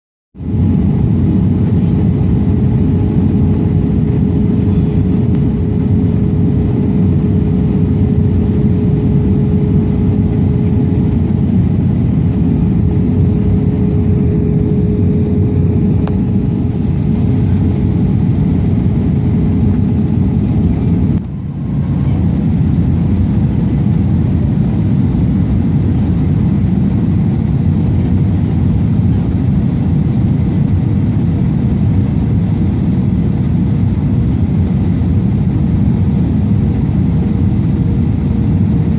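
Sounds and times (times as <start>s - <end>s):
constant hum: 0.4s - 38.9s
low engine drone: 0.4s - 38.9s.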